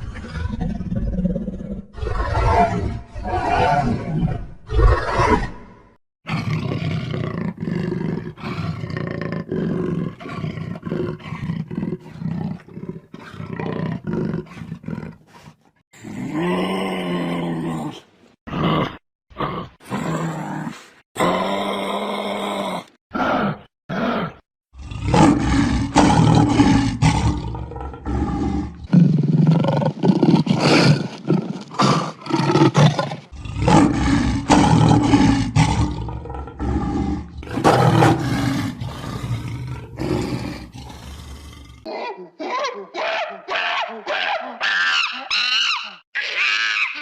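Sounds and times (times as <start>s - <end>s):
animal roaring: 0.0s - 15.4s, 16.0s - 41.9s.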